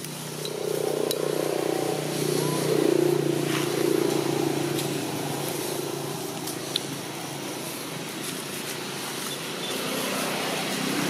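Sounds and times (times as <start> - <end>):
outdoor background noise: 0.0 - 11.0
vehicle engine humming: 0.0 - 11.0.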